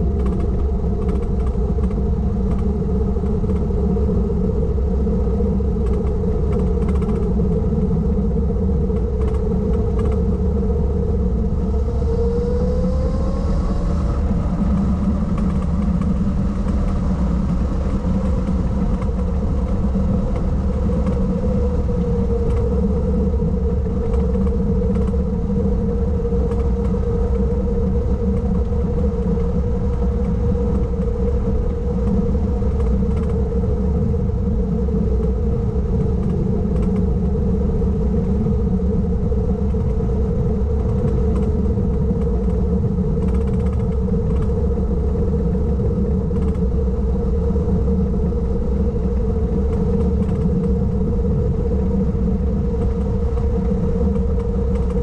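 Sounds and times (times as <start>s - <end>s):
car engine running steadily: 0.0s - 55.0s
low road rumble: 0.0s - 55.0s.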